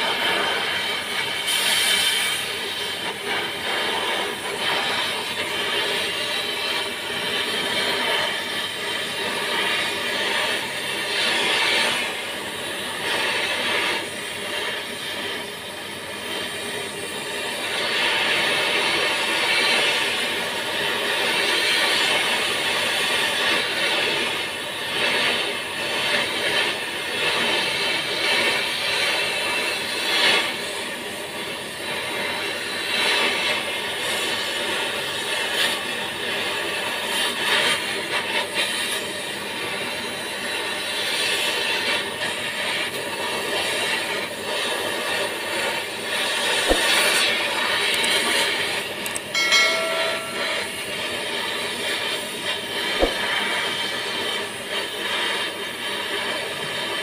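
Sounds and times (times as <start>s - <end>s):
gas torch flame hissing: 0.0s - 49.2s, 50.7s - 57.0s.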